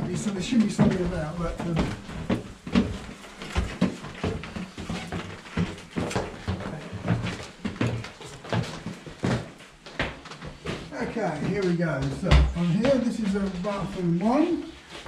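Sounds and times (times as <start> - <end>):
footsteps climbing stairs: 0.0 - 15.0.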